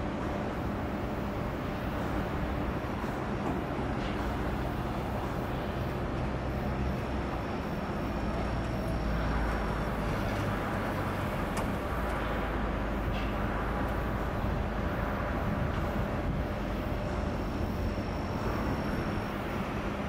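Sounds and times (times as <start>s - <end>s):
machinery rumble and hum: 0.0s - 20.0s.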